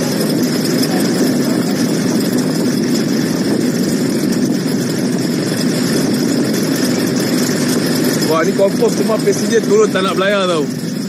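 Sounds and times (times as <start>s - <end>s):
loud engine running: 0.0s - 11.0s.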